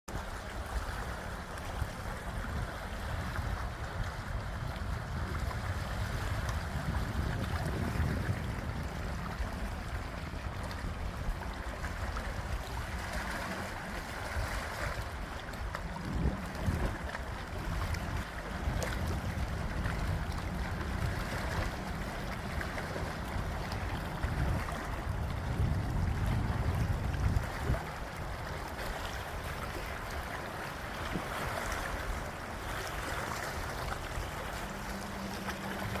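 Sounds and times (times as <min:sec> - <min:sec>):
water lapping against shore: 0:00.1 - 0:36.0
wind rumbling on microphone: 0:00.1 - 0:36.0.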